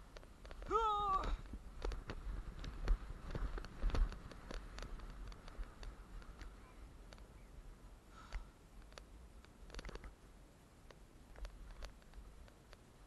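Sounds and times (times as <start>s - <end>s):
faint clicks and taps: 0.1s - 7.3s, 8.3s - 10.2s, 10.8s - 12.9s.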